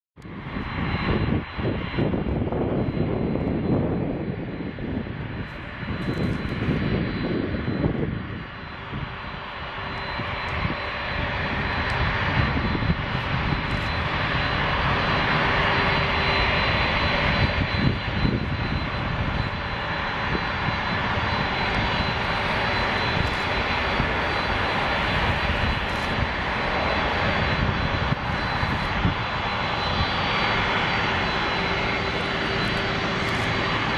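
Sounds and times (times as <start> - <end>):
jet engines powering up: 0.2 - 33.9
thin high whine: 0.6 - 33.9.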